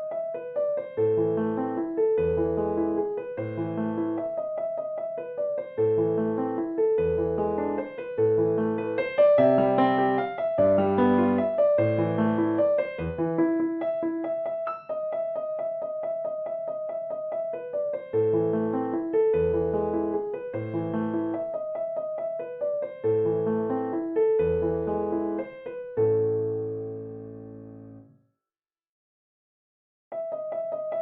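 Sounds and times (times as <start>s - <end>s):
gentle piano melody: 0.0s - 28.2s, 30.1s - 31.0s.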